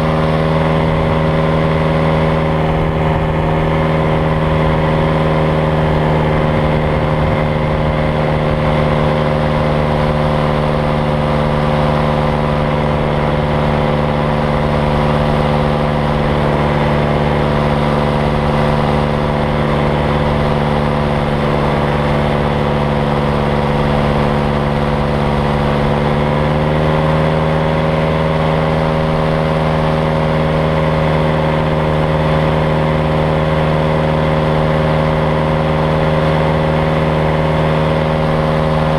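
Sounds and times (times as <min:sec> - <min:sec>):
paraglider engine and propeller droning: 0:00.0 - 0:38.9
wind rumble on microphone: 0:00.0 - 0:38.9.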